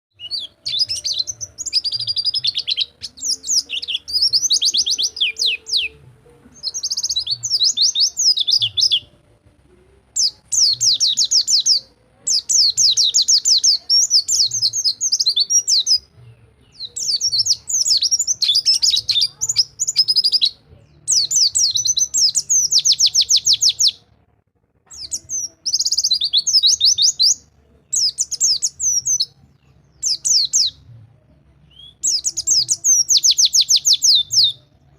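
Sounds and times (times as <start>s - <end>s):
bird twittering song: 0.1s - 9.2s, 10.1s - 24.0s, 24.9s - 30.9s, 31.7s - 34.7s.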